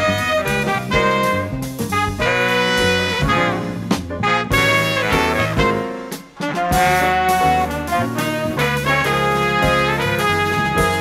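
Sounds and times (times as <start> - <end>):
bass: 0.0 - 11.0
drums: 0.0 - 11.0
piano: 0.0 - 11.0
saxophones and trumpet horn line: 0.0 - 11.0.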